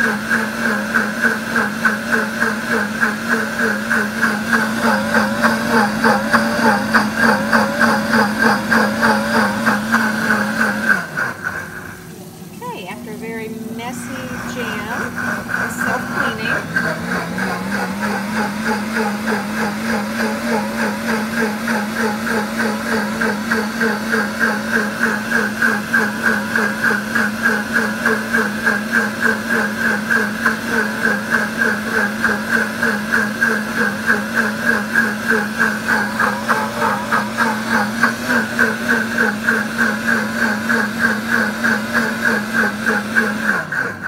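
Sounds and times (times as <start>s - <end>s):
liquid churning in blender jar: 0.0s - 12.6s, 13.5s - 44.0s
blender motor humming: 0.0s - 44.0s.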